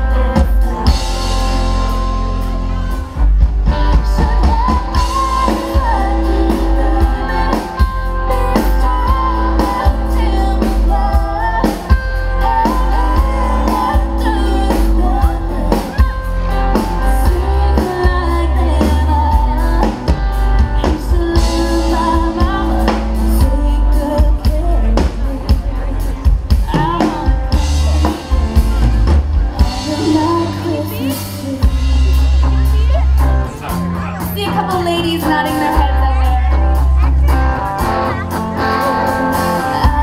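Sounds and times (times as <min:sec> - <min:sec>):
woman singing lead: 0:00.0 - 0:33.4, 0:34.0 - 0:40.0
drums: 0:00.0 - 0:40.0
electric guitar: 0:00.0 - 0:40.0.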